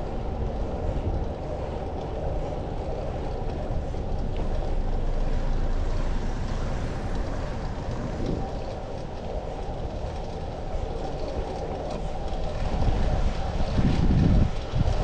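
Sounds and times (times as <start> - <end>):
road rumble: 0.0 - 15.0
wind rushing on microphone: 0.0 - 15.0.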